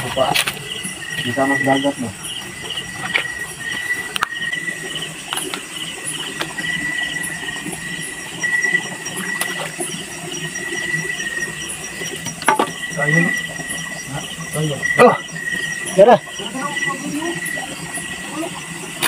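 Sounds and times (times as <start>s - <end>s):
insect chorus whine: 0.0s - 19.0s
insects chirping rapidly: 0.0s - 19.0s.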